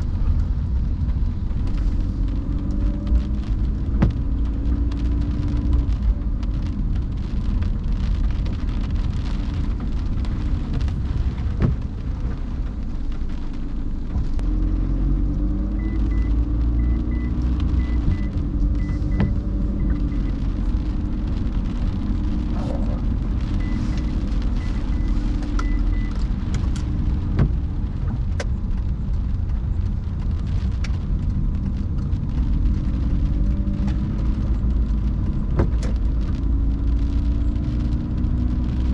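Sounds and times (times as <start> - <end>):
car engine and tyres on wet road: 0.0 - 38.9
rain tapping on car: 0.0 - 38.9.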